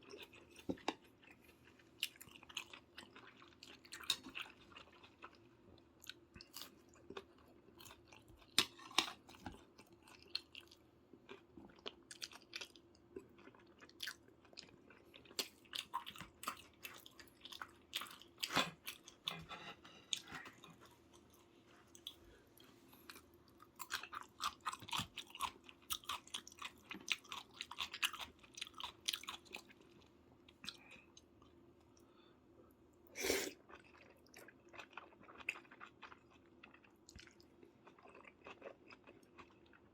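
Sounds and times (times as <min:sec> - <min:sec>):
person chewing food: 0:00.0 - 0:32.2, 0:33.1 - 0:39.9.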